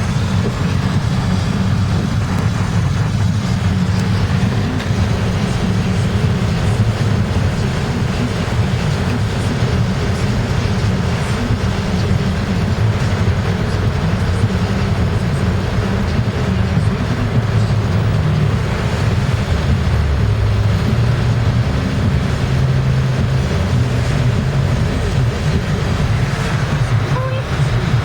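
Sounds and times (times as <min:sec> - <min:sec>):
car road and engine drone: 0:00.0 - 0:28.0
tyres on wet road: 0:00.0 - 0:28.0.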